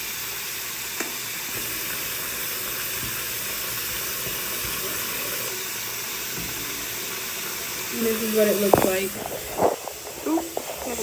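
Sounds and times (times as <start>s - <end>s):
tap running into basin: 0.8s - 11.0s.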